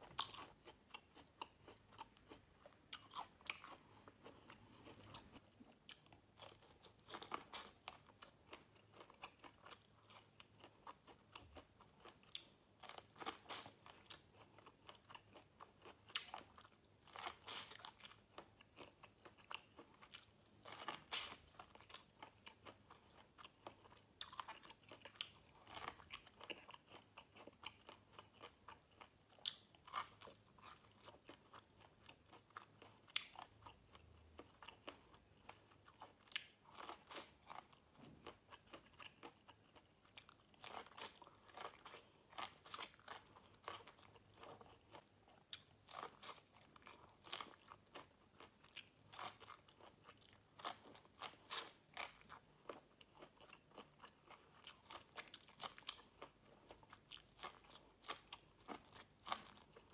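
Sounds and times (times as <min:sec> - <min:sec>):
quiet chewing: 0:00.0 - 0:59.9.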